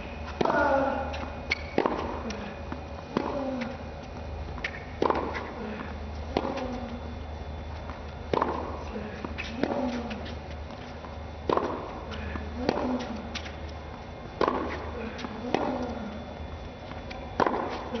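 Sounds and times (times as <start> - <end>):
racket hitting tennis ball: 0.0 - 7.1, 7.9 - 13.6, 14.2 - 18.0.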